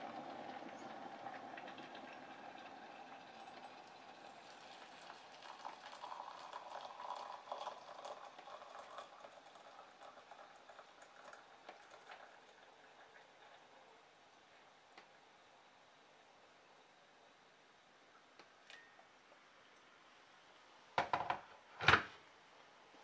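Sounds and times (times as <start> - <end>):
boiled water fizzing hiss: 0.0 - 21.4, 22.2 - 23.0.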